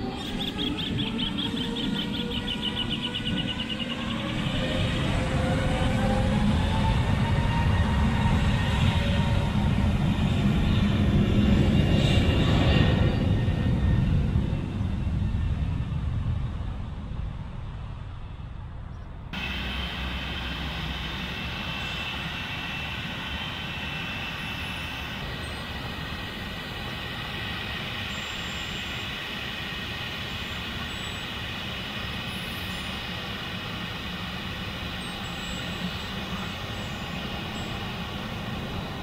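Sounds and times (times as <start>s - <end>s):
jet engines rumbling with whine: 0.0s - 39.0s
lower jet rumble: 0.0s - 39.0s.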